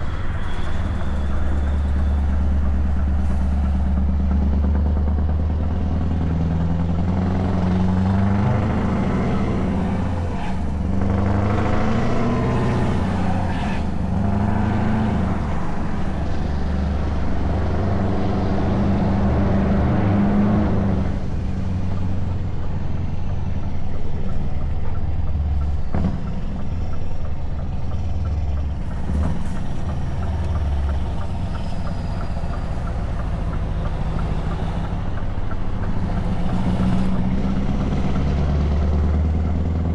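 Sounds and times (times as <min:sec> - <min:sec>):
truck engine with open exhaust: 0:00.0 - 0:39.9.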